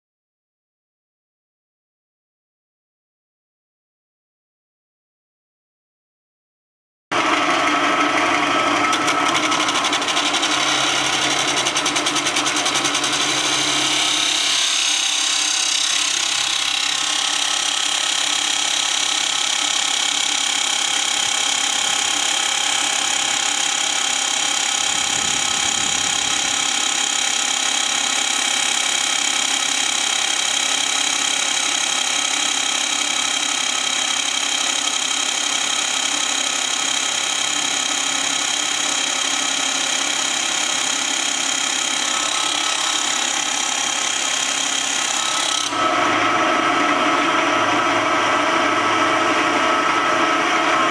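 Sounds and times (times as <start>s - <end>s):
chop saw whining: 7.1s - 50.9s.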